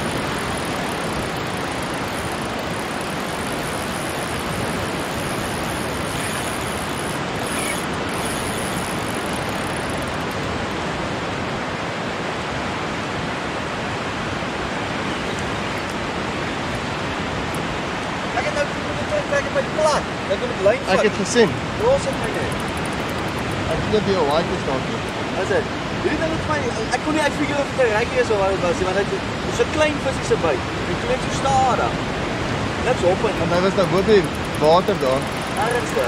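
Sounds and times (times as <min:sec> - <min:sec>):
wind: 0:00.0 - 0:36.0.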